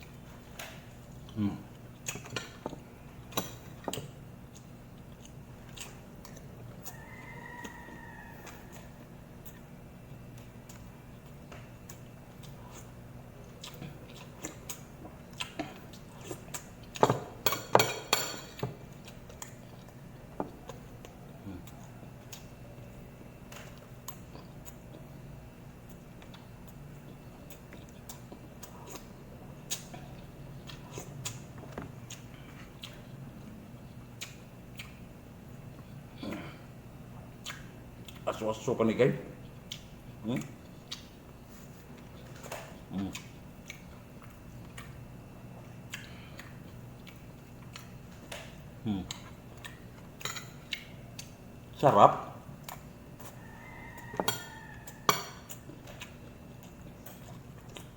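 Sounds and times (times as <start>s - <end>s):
person chewing food: 0.0s - 38.7s, 39.3s - 57.9s
steady low hum: 0.0s - 57.9s.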